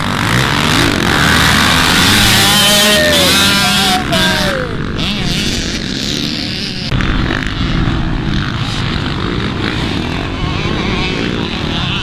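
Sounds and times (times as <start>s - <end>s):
dirt bike engines running: 0.0s - 12.0s.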